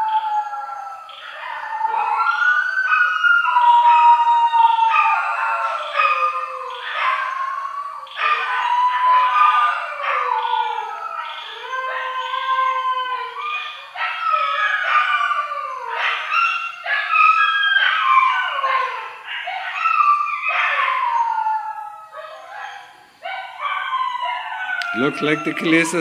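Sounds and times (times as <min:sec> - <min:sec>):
dogs howling: 0:00.0 - 0:26.0.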